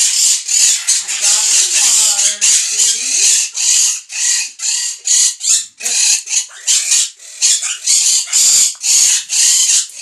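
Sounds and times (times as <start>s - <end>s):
parrot screeching: 0.0s - 10.0s.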